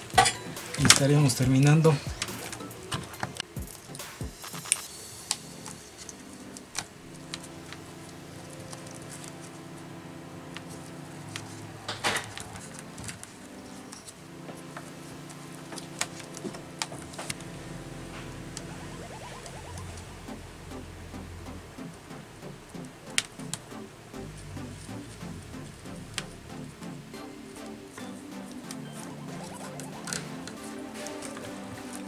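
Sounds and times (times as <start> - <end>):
soft music of sustained chords: 0.0 - 32.0.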